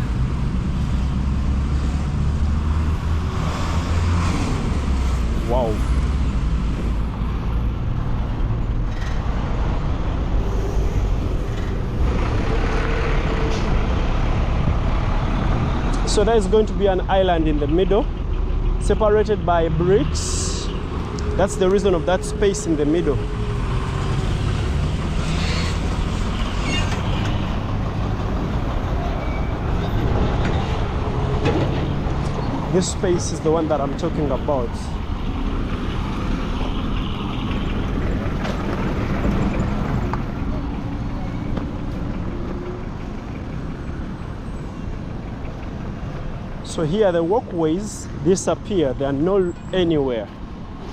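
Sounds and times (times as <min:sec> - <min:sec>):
low rumble of road traffic: 0:00.0 - 0:50.9.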